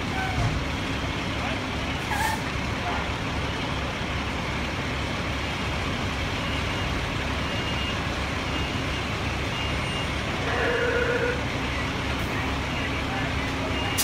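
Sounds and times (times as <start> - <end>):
fire truck engines running: 0.0 - 14.0.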